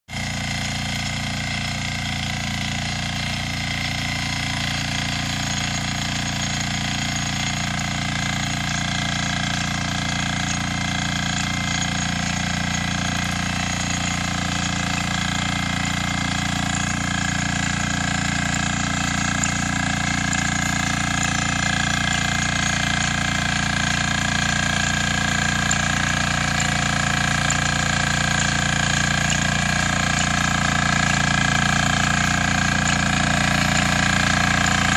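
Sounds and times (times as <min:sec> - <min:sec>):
motor hoe engine running: 0:00.1 - 0:34.9.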